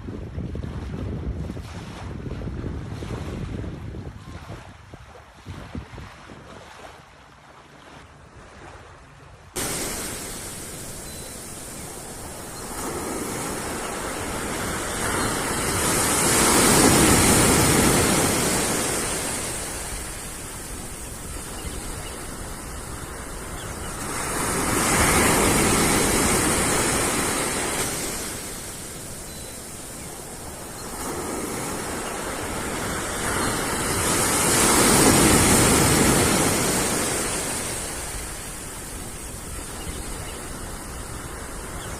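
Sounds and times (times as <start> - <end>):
sea waves breaking on shore: 0.5 - 41.9.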